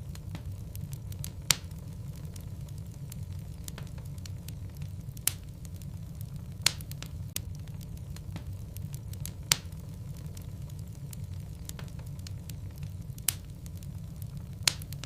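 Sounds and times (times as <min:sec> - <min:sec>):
logs crackling in fireplace: 0:00.0 - 0:15.0
sharp fire pops: 0:00.0 - 0:15.0.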